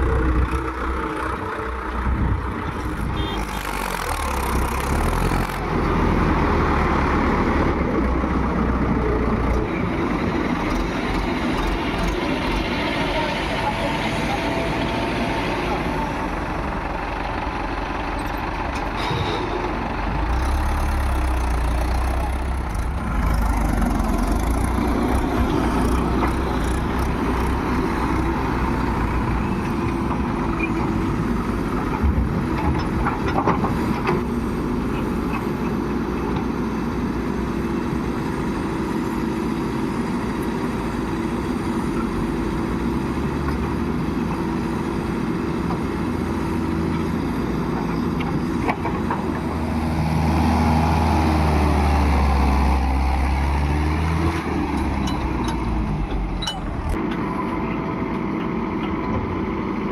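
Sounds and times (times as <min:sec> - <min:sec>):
earthmoving machine diesel engine: 0:00.0 - 0:59.9.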